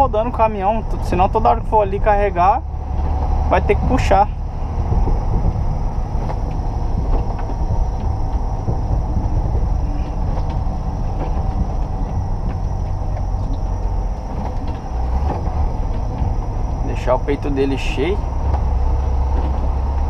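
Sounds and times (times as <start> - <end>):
cab knocks and rattles: 0.0 - 20.0
diesel truck engine rumbling: 0.0 - 20.0.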